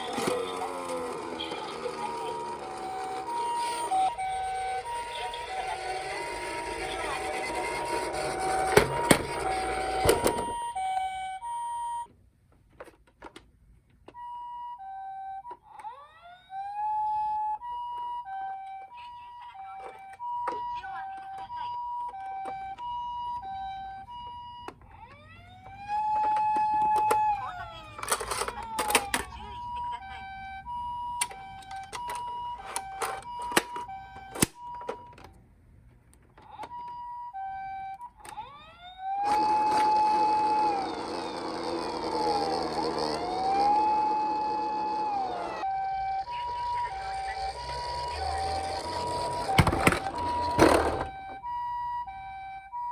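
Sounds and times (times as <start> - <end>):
two-tone toy siren: 0.0 - 12.1, 14.1 - 35.4, 36.3 - 52.9
wailing toy siren: 0.0 - 12.1, 14.1 - 35.3, 36.3 - 52.9.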